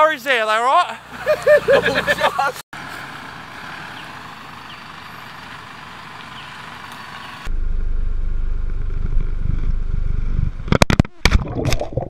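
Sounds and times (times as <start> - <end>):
off-road vehicle engine rumbling: 0.5 - 10.9.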